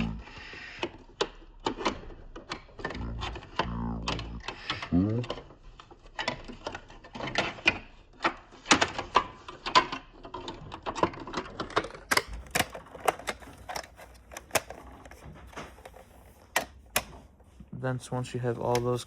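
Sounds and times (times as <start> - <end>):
plastic clicks and taps: 0.0 - 17.6.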